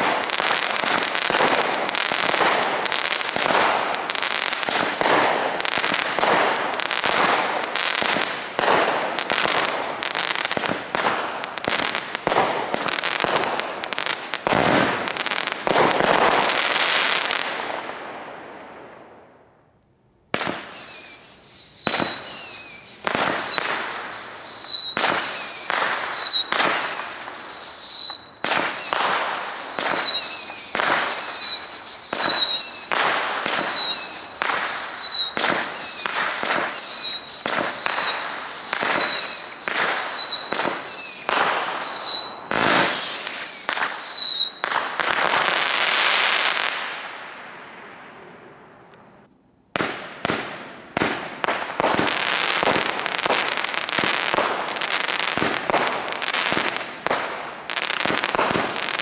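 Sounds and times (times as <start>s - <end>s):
fireworks whistling: 0.0s - 17.6s, 20.4s - 47.2s, 48.8s - 59.0s
fireworks popping and crackling: 0.0s - 18.6s, 20.3s - 59.0s.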